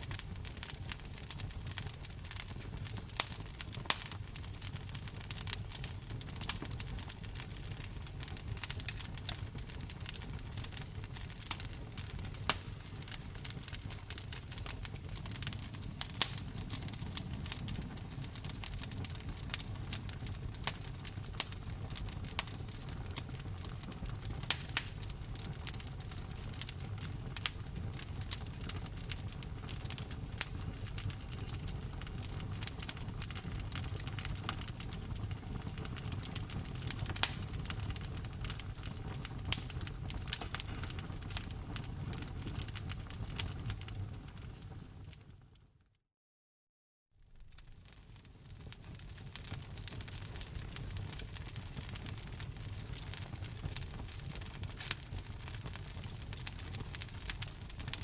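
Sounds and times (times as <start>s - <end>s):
low rumble of fire: 0.0s - 45.7s, 47.2s - 58.0s
wood fire crackling and popping: 0.0s - 45.7s, 47.3s - 58.0s.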